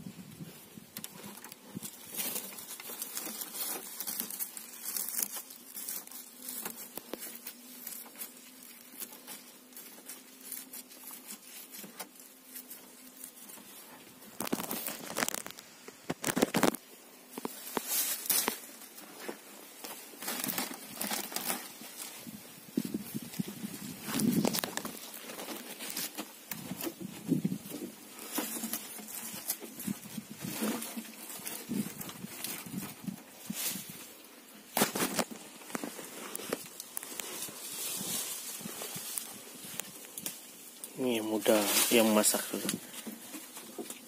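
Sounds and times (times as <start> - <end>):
plastic sack rustling: 1.0 - 44.0.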